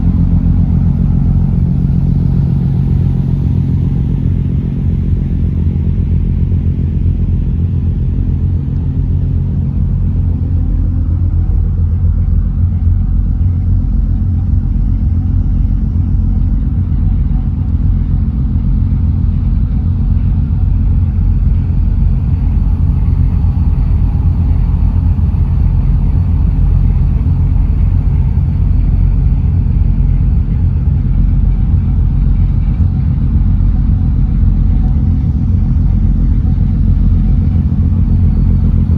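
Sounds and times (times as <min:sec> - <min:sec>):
engine rumbling: 0:00.0 - 0:38.9.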